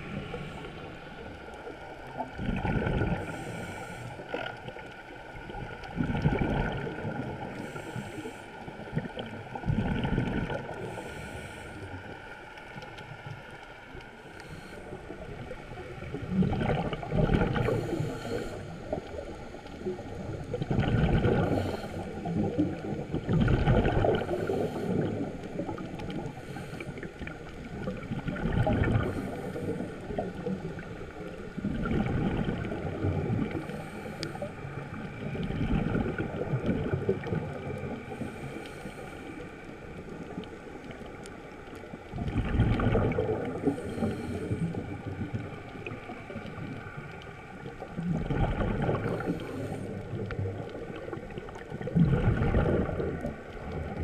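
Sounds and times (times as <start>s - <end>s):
bubbles burbling underwater: 0.0s - 14.0s, 15.0s - 39.0s, 39.7s - 54.0s.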